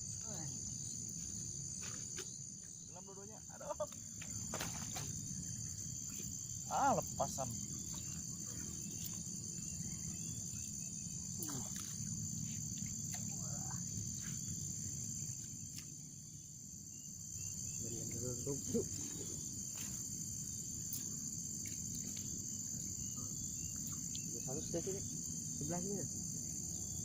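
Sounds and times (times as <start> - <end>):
insect chorus trilling: 0.0 - 27.0.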